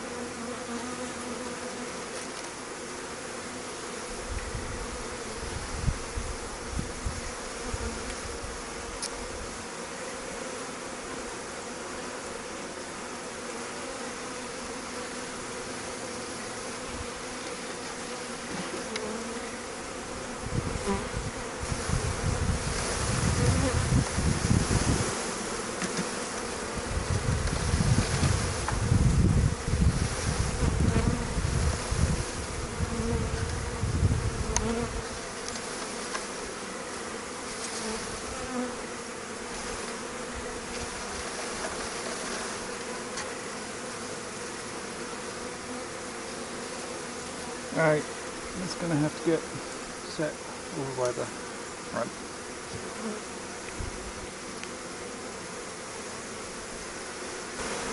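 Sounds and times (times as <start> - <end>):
bees buzzing: 0.0 - 57.9.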